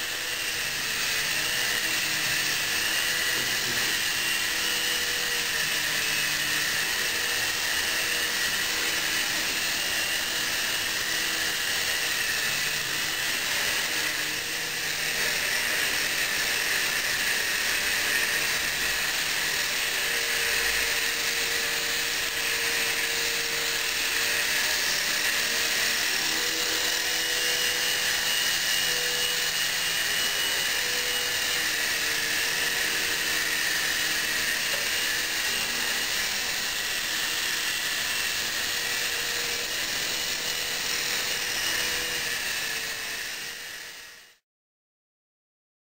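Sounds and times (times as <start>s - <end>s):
toy helicopter rotors whirring: 0.0s - 44.4s.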